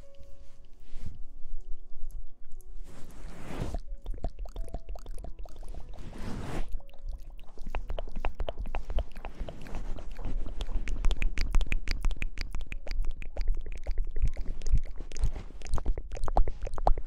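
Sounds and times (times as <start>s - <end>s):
wet hair being lathered: 3.1s - 17.0s.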